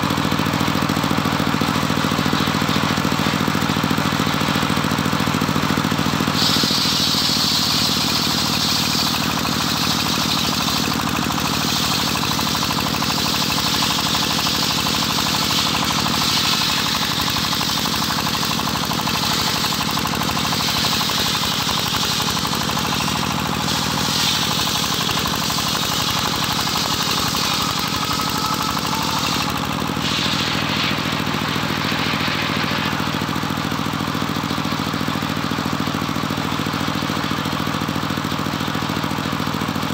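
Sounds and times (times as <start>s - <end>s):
engine running: 0.0s - 39.9s
saw blade cutting hiss: 0.4s - 37.4s.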